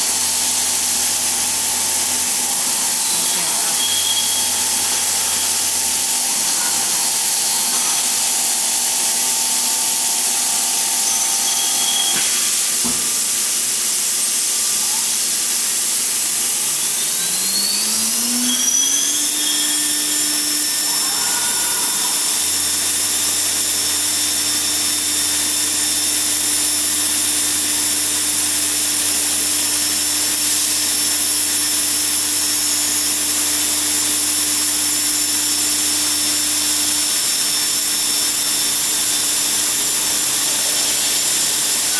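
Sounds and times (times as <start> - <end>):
milling machine hissing: 0.0 - 41.9
motor whine: 0.0 - 41.9.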